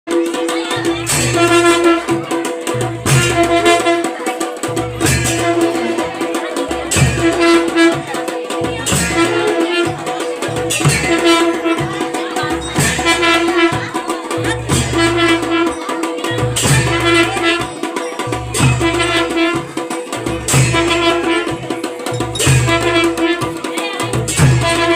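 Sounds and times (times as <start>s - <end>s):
held melodic tone: 0.1s - 24.9s
music with drums and percussion: 0.1s - 24.9s.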